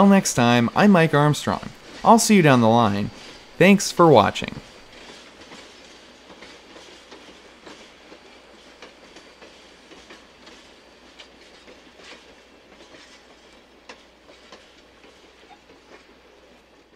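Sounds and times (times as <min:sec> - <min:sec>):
rolling rumble of railcars: 0:00.0 - 0:16.9
steel wheels clicking and clanking: 0:00.0 - 0:16.9.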